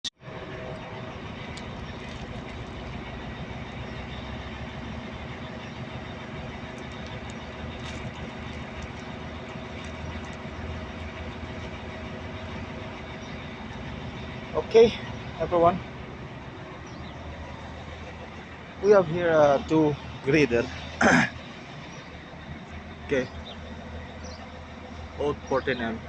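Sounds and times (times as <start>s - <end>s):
diesel engine idling: 0.2s - 26.0s.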